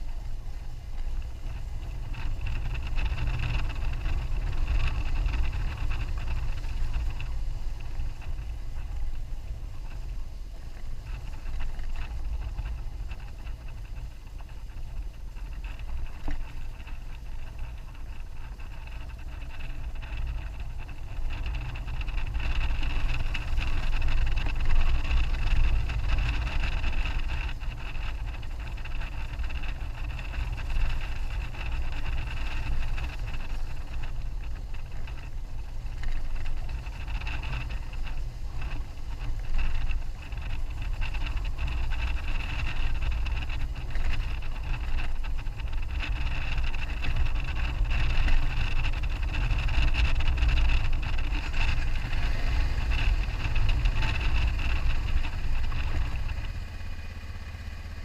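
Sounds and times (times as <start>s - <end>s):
motorcycle engine running: 0.0s - 58.0s
wind on microphone: 0.0s - 58.0s.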